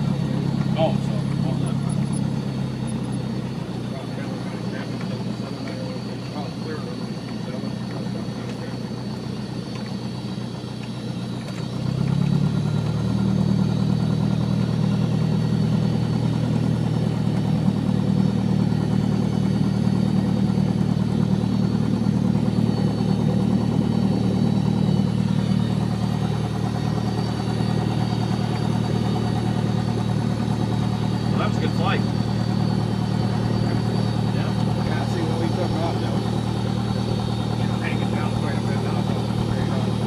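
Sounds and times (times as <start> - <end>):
light airplane engine running: 0.0 - 40.0.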